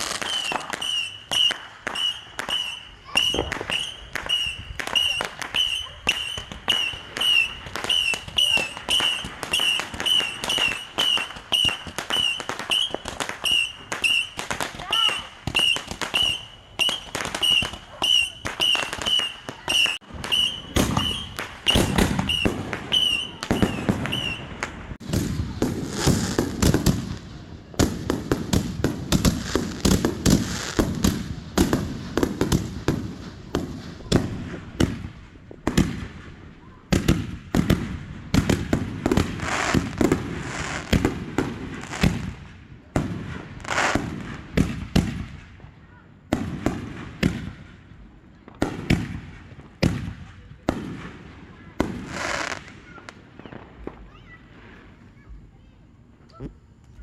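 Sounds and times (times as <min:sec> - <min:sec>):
fireworks banging and crackling: 0:00.0 - 0:57.0.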